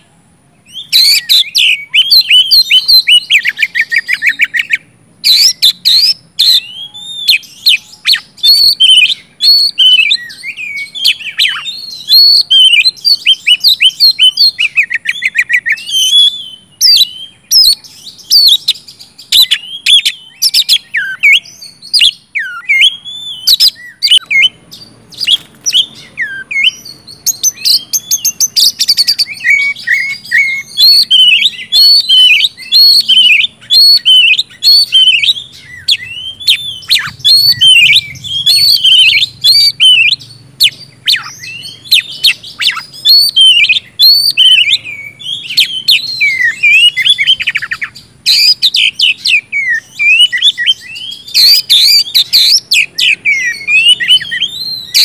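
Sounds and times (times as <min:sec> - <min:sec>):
bird singing whistled phrases: 0:00.6 - 0:55.0.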